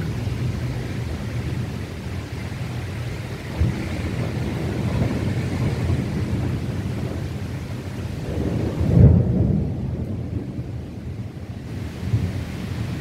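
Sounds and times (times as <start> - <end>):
rain hissing: 0.0 - 13.0
thunder rumbling: 0.0 - 13.0.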